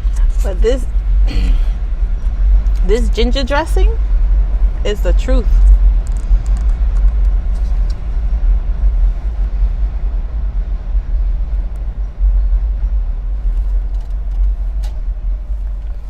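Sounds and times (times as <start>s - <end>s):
low rumble in car cabin: 0.0s - 16.0s.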